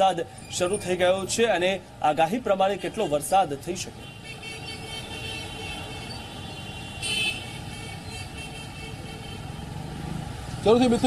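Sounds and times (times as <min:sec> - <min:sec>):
traffic on wet road: 0:00.0 - 0:11.0.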